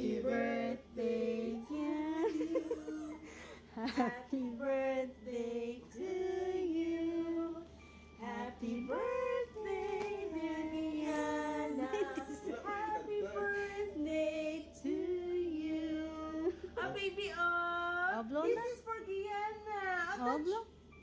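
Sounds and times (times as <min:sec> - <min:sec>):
music: 0:00.0 - 0:21.0.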